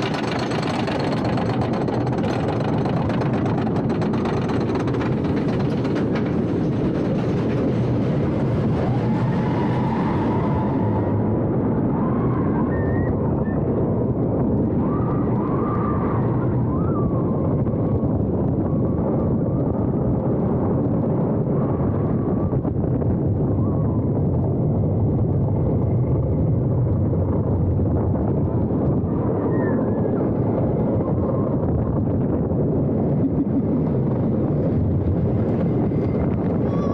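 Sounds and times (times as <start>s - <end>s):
roller coaster rumbling on track: 0.0s - 36.9s.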